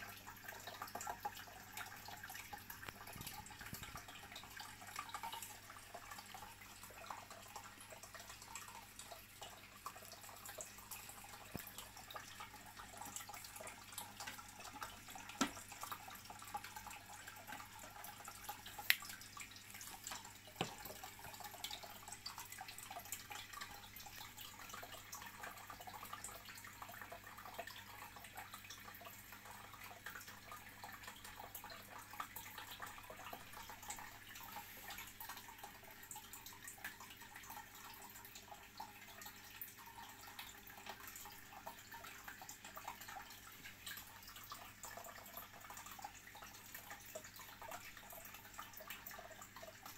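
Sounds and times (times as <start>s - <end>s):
aquarium bubbling: 0.0s - 49.9s
trickling water: 0.0s - 49.9s.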